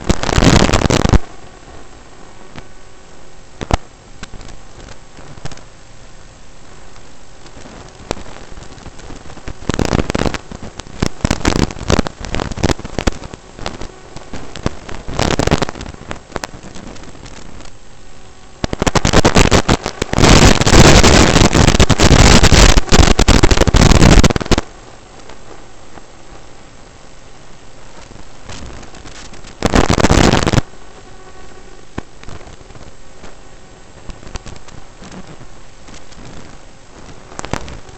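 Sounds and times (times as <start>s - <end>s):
crackling distorted noise rush: 0.0s - 37.9s.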